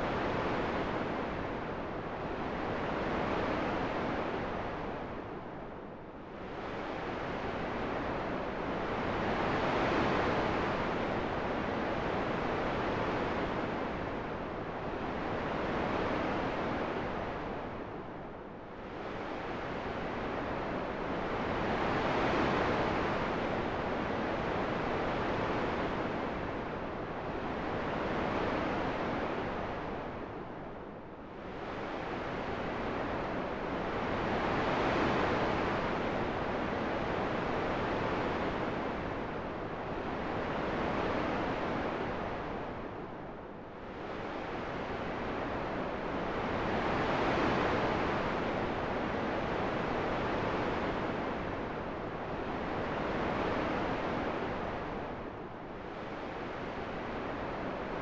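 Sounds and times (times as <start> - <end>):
wind-like rushing noise: 0.0 - 58.0.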